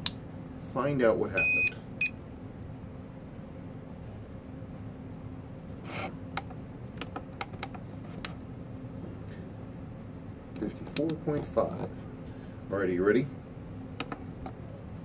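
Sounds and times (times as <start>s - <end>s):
faint steady hum: 0.0s - 6.8s, 8.1s - 15.0s.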